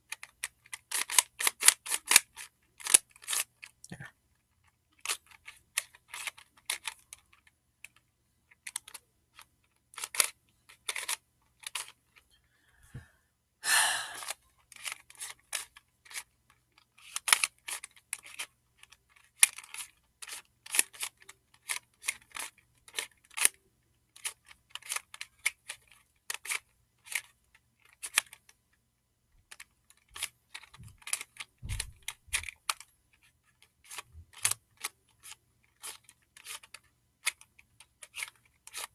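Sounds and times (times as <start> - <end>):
puzzle cube layers clicking: 0.1 - 3.8, 5.0 - 12.2, 16.9 - 23.6, 24.2 - 28.5, 29.5 - 38.9
puzzle cube rattle: 0.1 - 3.8, 4.4 - 12.3, 14.2 - 28.6, 29.4 - 38.9.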